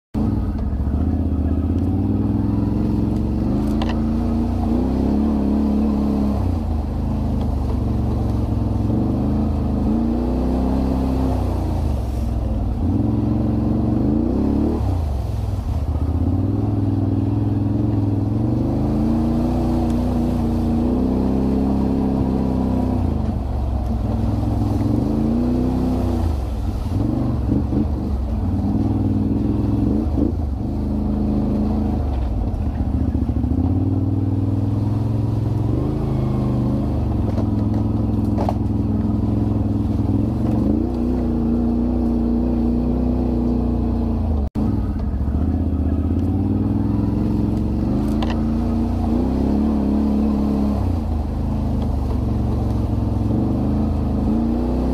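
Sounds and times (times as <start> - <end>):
atv engines revving: 0.2 - 54.9.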